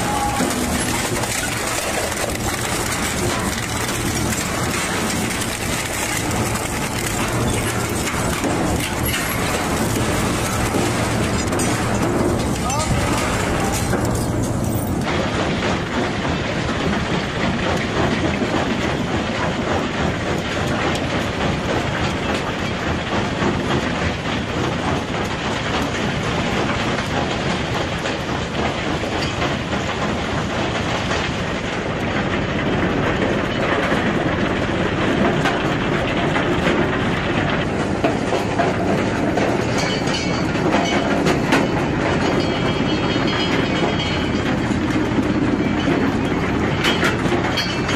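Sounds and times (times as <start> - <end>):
shredding machine rattling: 0.0 - 47.9.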